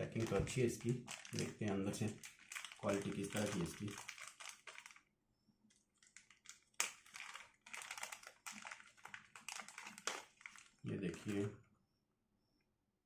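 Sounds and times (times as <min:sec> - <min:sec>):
plastic packaging crinkling: 0:00.0 - 0:05.1, 0:05.7 - 0:11.6.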